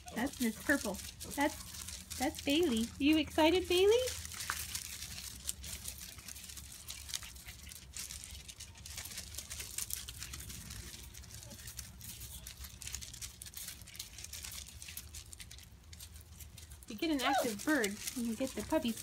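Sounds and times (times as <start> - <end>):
puppies scrambling: 0.0 - 19.0.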